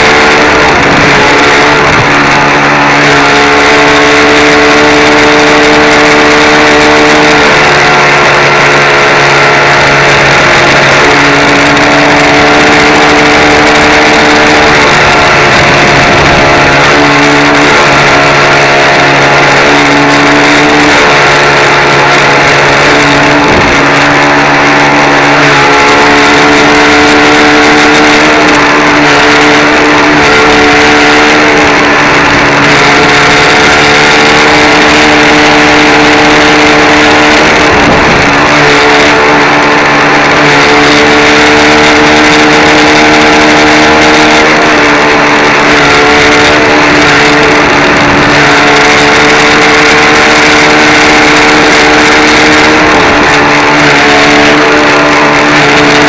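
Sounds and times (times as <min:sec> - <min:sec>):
electric motor whining: 0:00.0 - 0:56.0
water rushing: 0:00.0 - 0:56.0.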